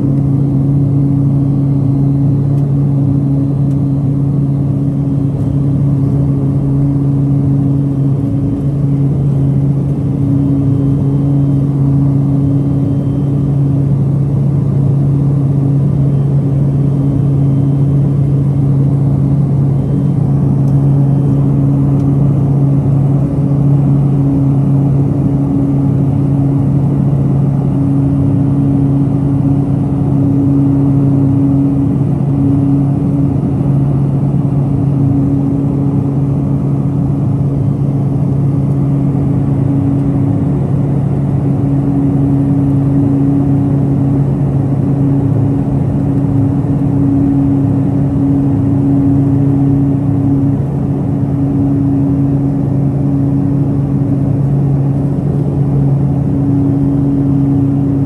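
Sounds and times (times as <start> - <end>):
turboprop cabin drone: 0.0 - 58.0.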